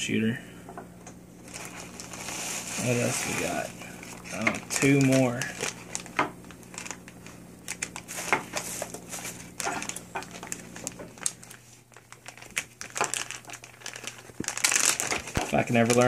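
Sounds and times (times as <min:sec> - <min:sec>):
plastic bag crinkling: 0:01.4 - 0:16.0.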